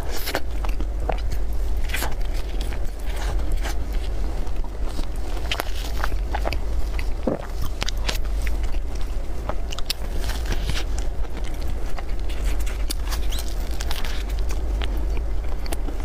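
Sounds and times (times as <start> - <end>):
chewing with crackles: 0.0 - 16.0
steady low hum: 0.0 - 16.0.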